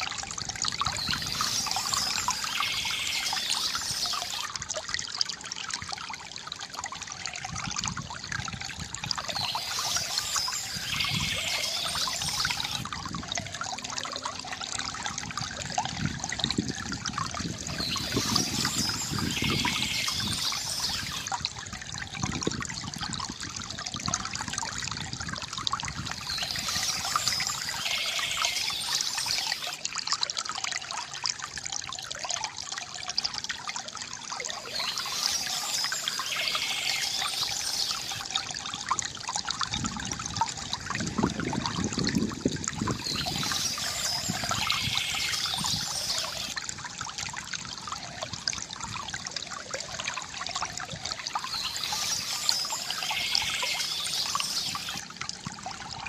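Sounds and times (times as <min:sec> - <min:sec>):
water trickling from fountain spout: 0:00.0 - 0:56.0.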